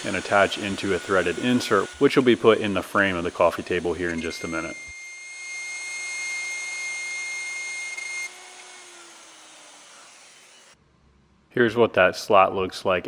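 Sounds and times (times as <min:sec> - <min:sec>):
router high whine: 0:00.0 - 0:10.8
router motor winding down: 0:00.0 - 0:10.8.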